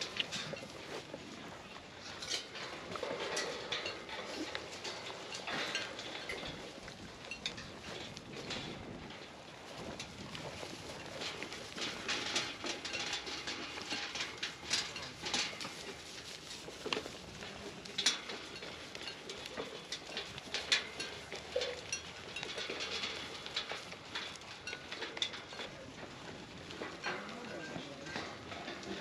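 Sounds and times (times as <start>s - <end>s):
goats crunching feed pellets: 0.0s - 29.0s.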